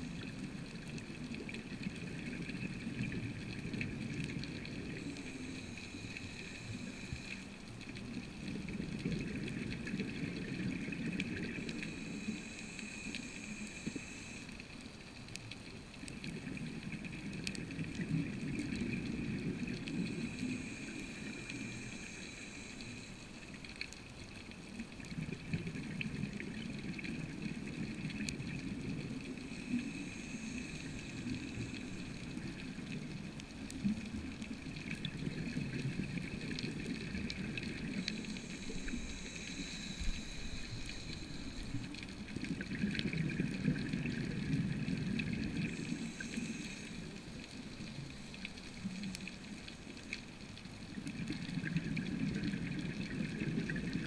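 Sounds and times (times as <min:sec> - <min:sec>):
regulator hiss underwater: 0:00.0 - 0:14.8, 0:17.4 - 0:23.8, 0:25.2 - 0:50.2.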